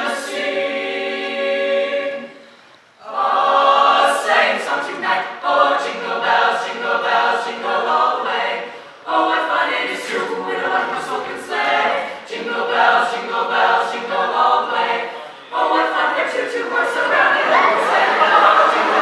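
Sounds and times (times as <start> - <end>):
choir singing a cappella: 0.0 - 19.0.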